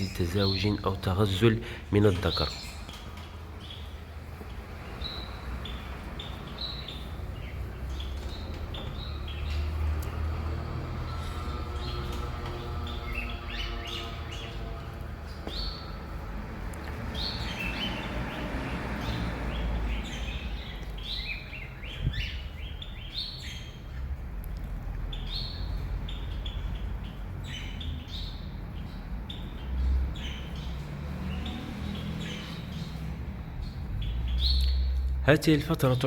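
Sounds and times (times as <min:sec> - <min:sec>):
cage birds chirping: 0:00.0 - 0:36.0.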